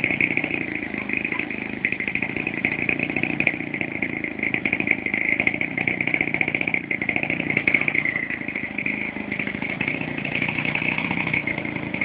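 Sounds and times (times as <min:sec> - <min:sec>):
model airplane engine buzzing: 0:00.0 - 0:12.0.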